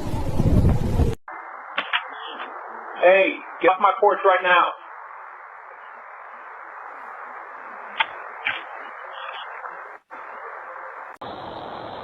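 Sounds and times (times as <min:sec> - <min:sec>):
narrow-band microphone hiss: 0:00.7 - 0:12.0.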